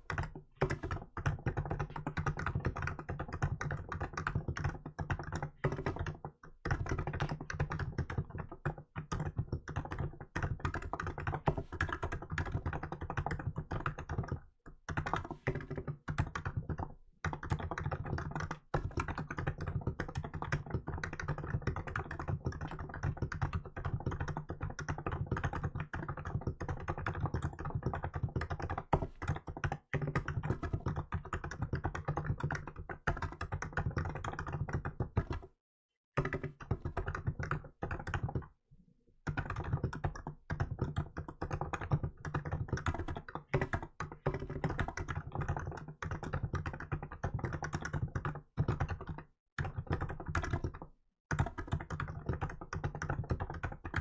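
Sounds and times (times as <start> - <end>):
fast keyboard typing: 0.0 - 35.5, 36.2 - 38.5, 39.3 - 54.0.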